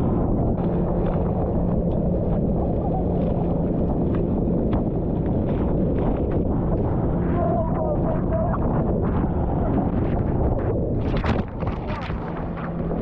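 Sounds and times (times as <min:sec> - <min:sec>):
heavy wind rumble on microphone: 0:00.0 - 0:13.0.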